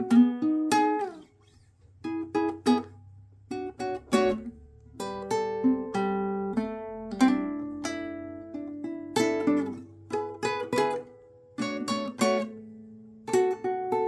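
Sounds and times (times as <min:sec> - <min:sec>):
blues guitar playing: 0:00.0 - 0:14.0.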